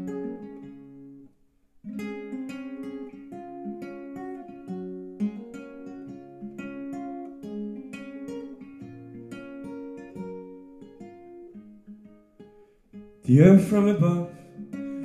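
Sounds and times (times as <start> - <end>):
fingerpicked classical guitar: 0.0 - 15.0.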